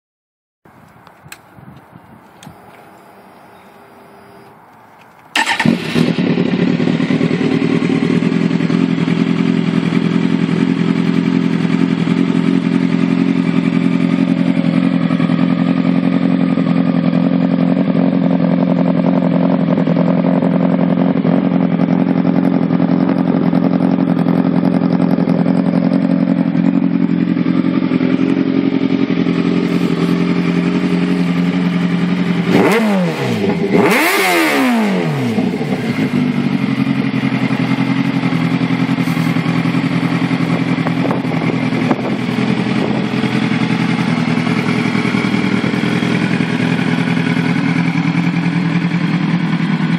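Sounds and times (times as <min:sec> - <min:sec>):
motorcycle engine idling: 0:05.3 - 0:34.2, 0:34.8 - 0:49.9
motorcycle engine revving: 0:05.3 - 0:49.9.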